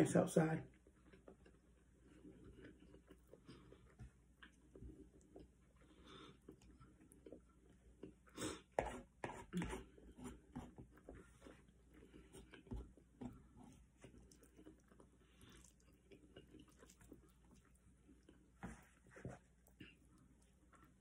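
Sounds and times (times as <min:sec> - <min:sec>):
chewing: 0:00.7 - 0:08.8, 0:10.9 - 0:21.0.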